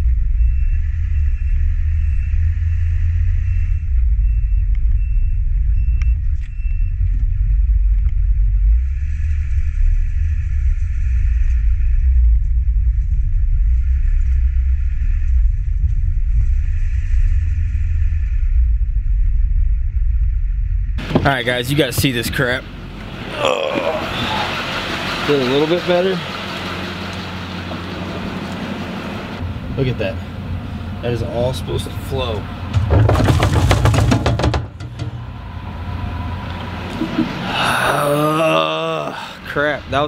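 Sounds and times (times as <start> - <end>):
truck engine and tyre rumble: 0.0 - 38.2.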